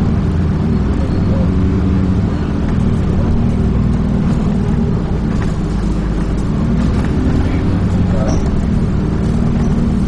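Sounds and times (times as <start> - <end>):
bus engine droning: 0.0 - 10.0
road and body noise: 0.0 - 10.0.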